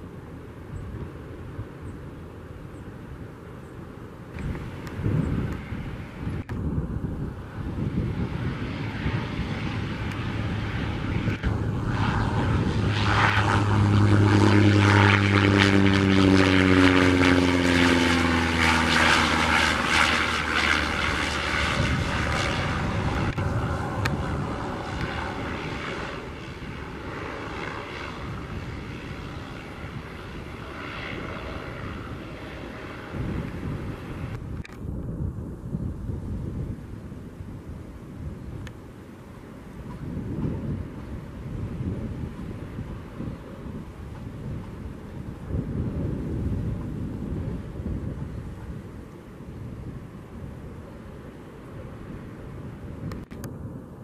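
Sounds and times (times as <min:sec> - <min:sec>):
turboprop plane passing: 0:00.0 - 0:54.0.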